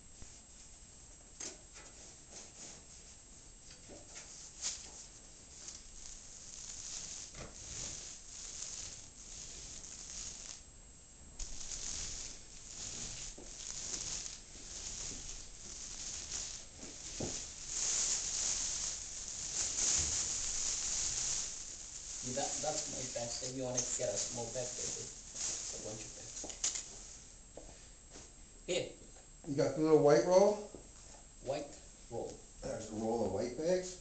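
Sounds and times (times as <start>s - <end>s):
paint roller crackling hiss: 0.0s - 28.5s, 29.5s - 34.0s.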